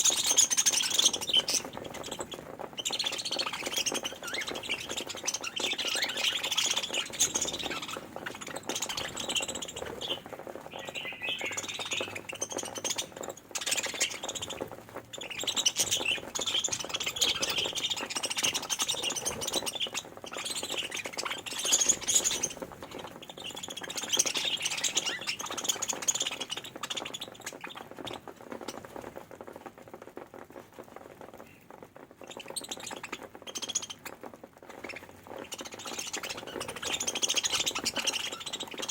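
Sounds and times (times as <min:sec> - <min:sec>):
budgerigars chattering and chirping: 0:00.0 - 0:28.8, 0:32.2 - 0:38.9.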